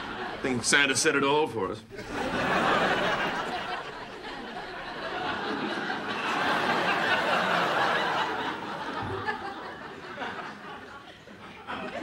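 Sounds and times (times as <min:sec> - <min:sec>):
studio audience laughing: 0:00.0 - 0:00.6, 0:01.9 - 0:12.0.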